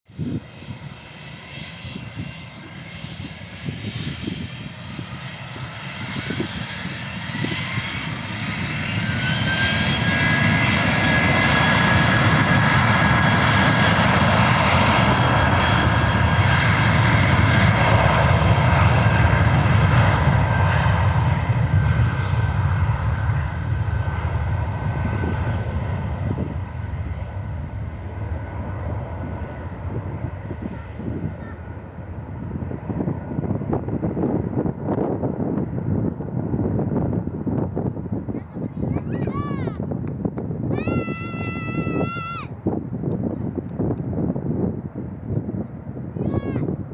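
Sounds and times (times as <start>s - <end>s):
jet engines whining: 0.2s - 46.9s.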